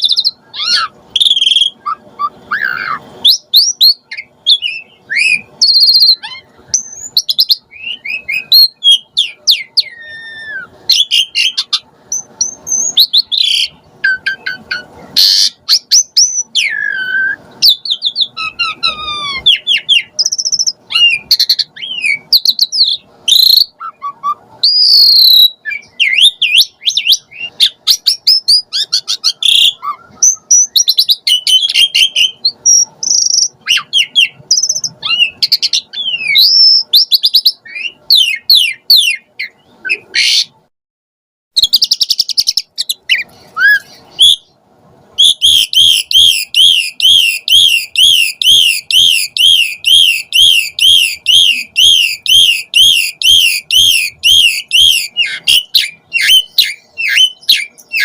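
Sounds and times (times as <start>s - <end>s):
starling singing: 0.0s - 40.6s, 41.6s - 58.0s.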